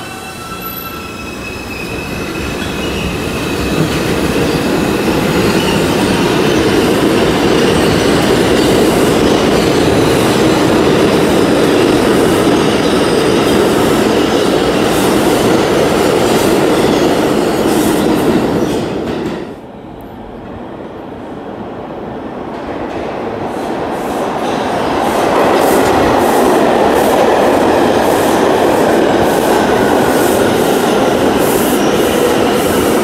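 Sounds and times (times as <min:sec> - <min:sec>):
subway train rumbling past: 0:00.0 - 0:33.0.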